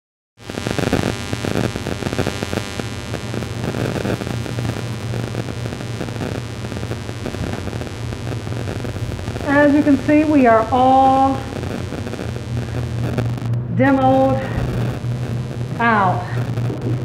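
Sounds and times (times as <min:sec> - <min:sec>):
hiss and crackle: 0:00.4 - 0:17.0
low hum: 0:00.6 - 0:17.0.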